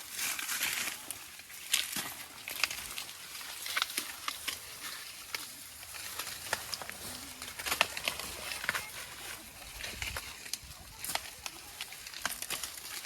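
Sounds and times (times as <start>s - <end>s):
dry corn stalks rustling: 0.0s - 13.0s.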